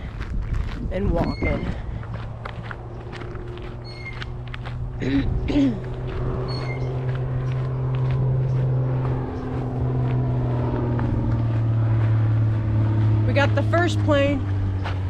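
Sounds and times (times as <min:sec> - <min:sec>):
small plane engine drone: 0:00.0 - 0:15.0.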